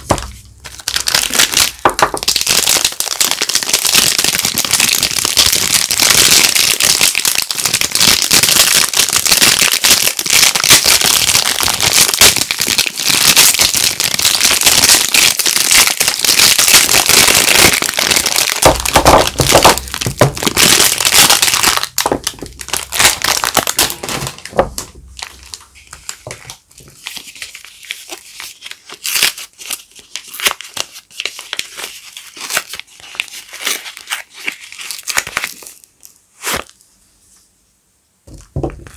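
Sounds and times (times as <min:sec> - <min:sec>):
soap wrappers crinkling: 0:00.0 - 0:36.8.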